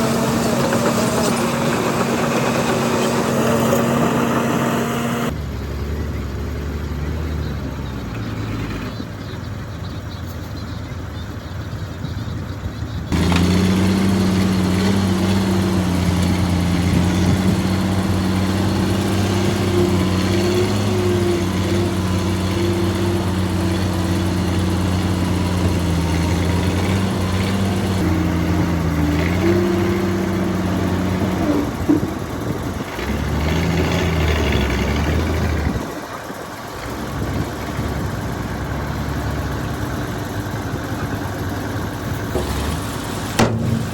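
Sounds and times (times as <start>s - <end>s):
heavy diesel engine droning: 0.0s - 12.0s, 12.7s - 43.9s.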